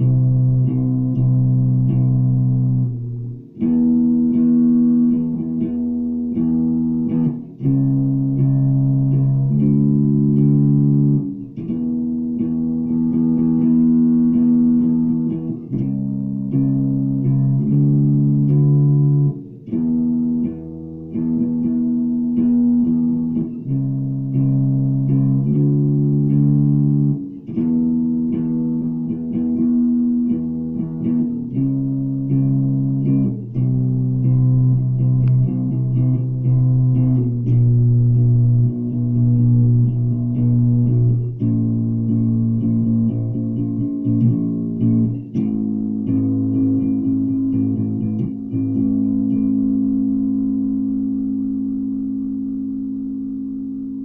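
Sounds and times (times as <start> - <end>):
electric bass guitar notes: 0.0 - 54.0.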